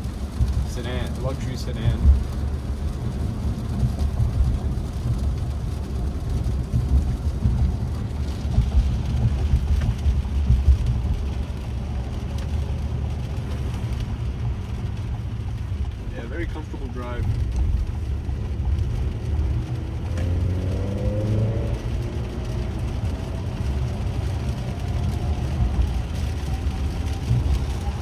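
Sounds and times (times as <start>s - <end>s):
rain hiss and spray: 0.0s - 28.0s
tyres rumbling on wet road: 0.0s - 28.0s.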